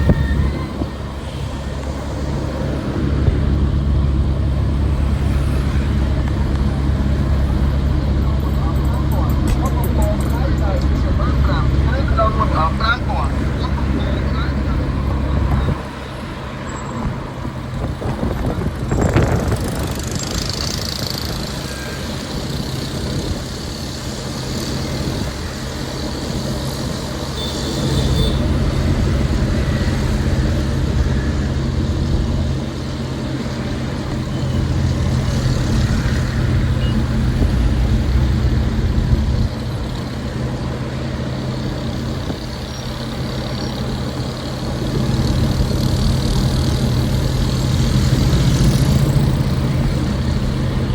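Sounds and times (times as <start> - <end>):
traffic engines humming: 0.0 - 50.9
vehicle passing: 0.0 - 50.9.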